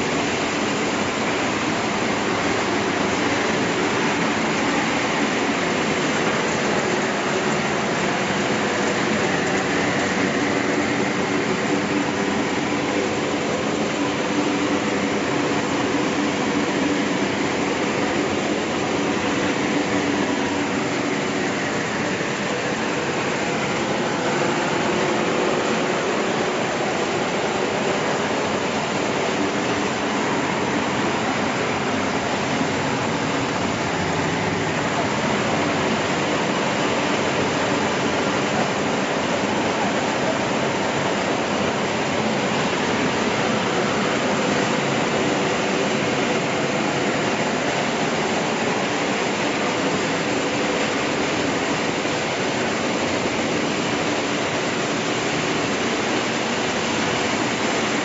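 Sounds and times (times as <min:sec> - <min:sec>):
constant machine hum: 0:00.0 - 0:58.0.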